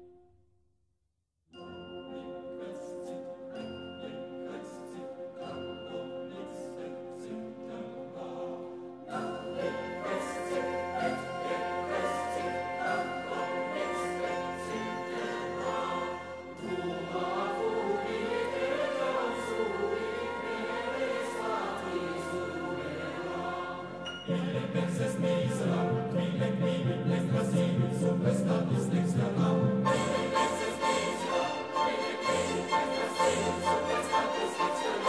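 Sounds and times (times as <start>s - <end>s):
choir singing with orchestra: 1.6s - 35.0s.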